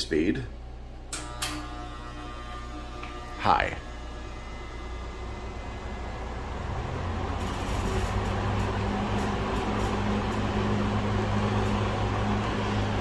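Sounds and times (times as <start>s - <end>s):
low fan motor buzz: 0.0s - 13.0s.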